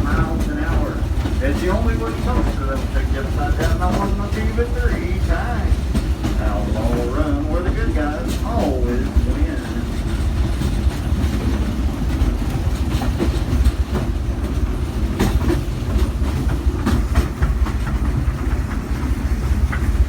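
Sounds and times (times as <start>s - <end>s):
train cars rumbling on track: 0.0s - 20.0s
wheels clicking on rail joints: 0.0s - 20.0s.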